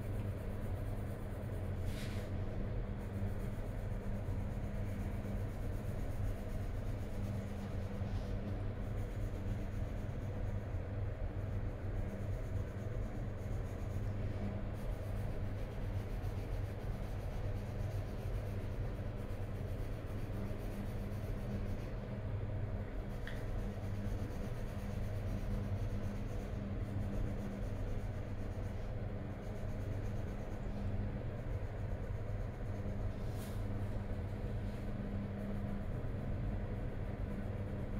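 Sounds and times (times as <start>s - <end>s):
pencil scratching on paper: 0.1s - 37.9s.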